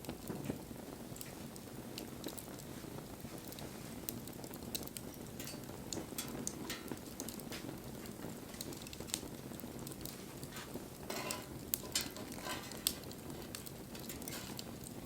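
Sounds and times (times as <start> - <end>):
fire crackling and popping: 0.0 - 15.0
flame noise: 0.0 - 15.0.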